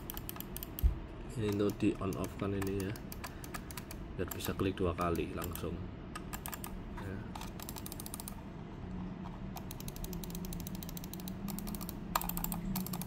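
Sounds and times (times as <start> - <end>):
computer mouse clicking: 0.0 - 6.8, 7.4 - 8.4, 9.2 - 13.0.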